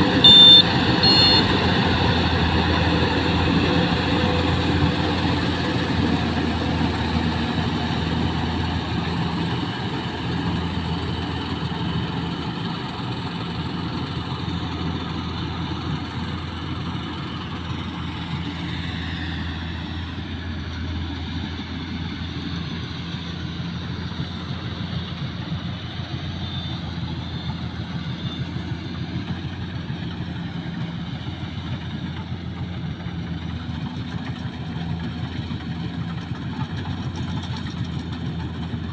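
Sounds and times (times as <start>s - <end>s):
harvester engine humming: 0.0s - 38.9s.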